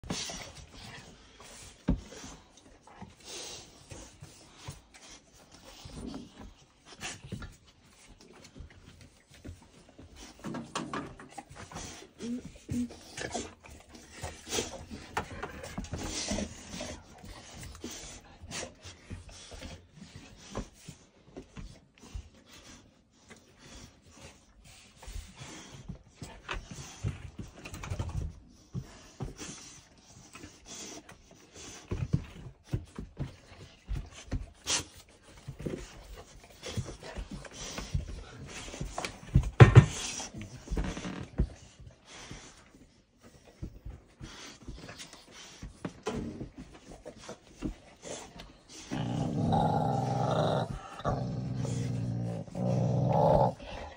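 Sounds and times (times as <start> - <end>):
dogs panting: 0.0 - 53.9
paws clicking on rubber mat: 0.0 - 53.9.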